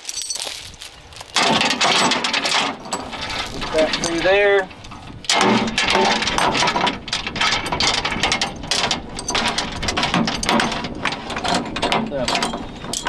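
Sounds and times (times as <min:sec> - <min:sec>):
steel chain clinking on metal: 0:00.0 - 0:13.0.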